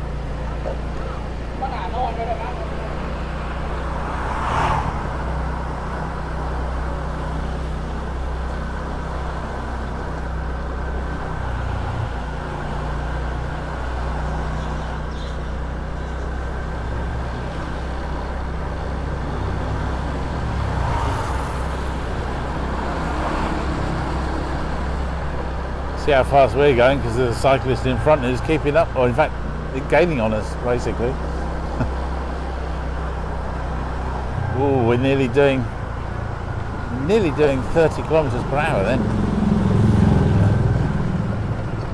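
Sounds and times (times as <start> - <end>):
scooter engine droning: 0.0 - 41.9
wind and road noise: 0.0 - 41.9.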